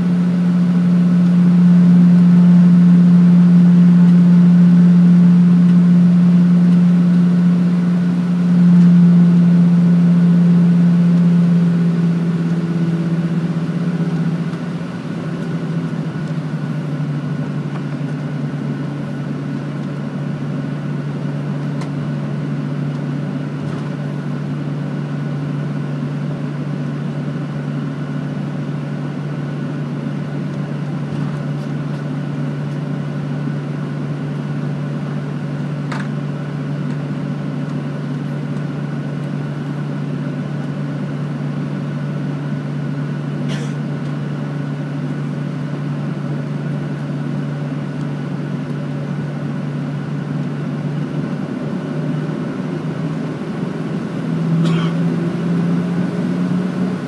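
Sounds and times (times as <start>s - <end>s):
jet engine cabin drone: 0.0s - 57.0s.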